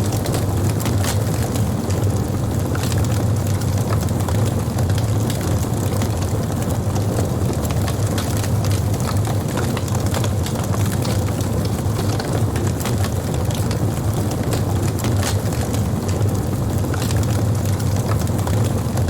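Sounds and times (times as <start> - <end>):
campfire crackling and popping: 0.0 - 19.0
low rumble of flames: 0.0 - 19.0.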